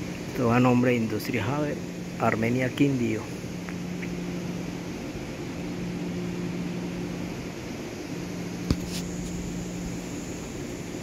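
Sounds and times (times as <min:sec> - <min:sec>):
dust extractor fan running: 0:00.0 - 0:11.0.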